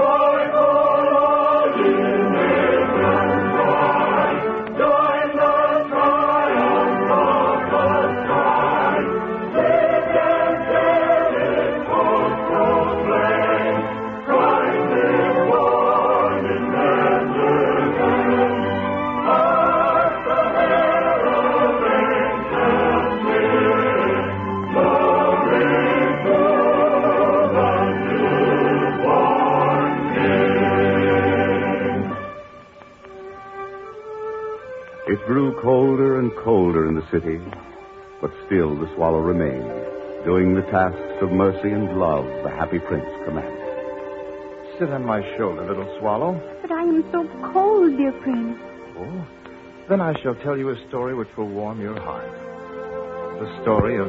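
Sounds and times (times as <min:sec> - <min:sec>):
choir singing: 0:00.0 - 0:32.5, 0:38.2 - 0:49.2, 0:49.9 - 0:54.0.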